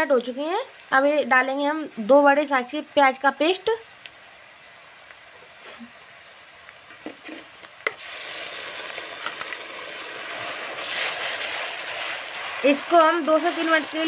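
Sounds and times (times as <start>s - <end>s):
onion paste sizzling in oil: 0.0s - 14.0s.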